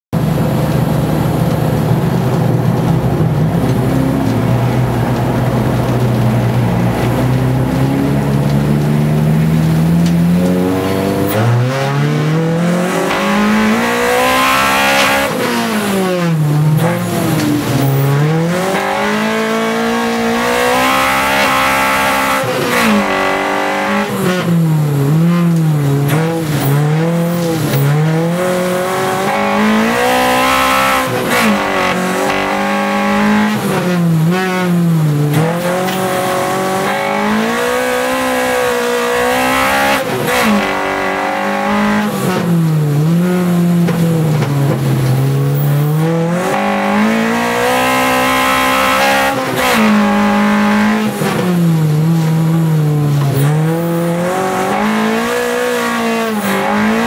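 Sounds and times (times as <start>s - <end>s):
car engine revving: 0.2s - 57.0s.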